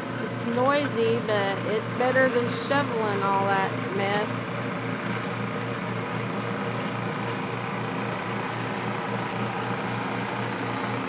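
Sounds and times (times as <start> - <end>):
snow blower engine running: 0.0 - 11.0.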